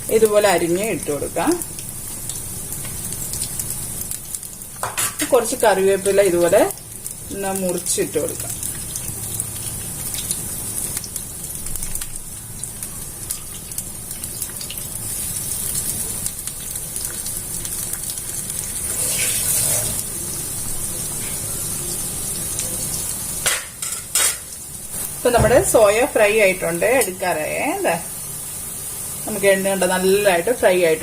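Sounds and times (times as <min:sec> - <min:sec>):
food deep-frying in hot oil: 0:00.0 - 0:31.0.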